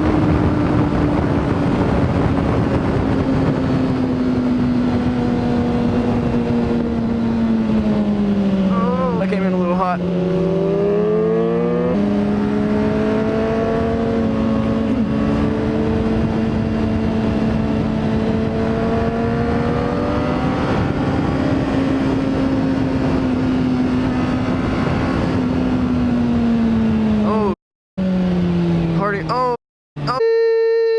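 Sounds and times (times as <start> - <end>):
wind and road noise: 0.0 - 30.9.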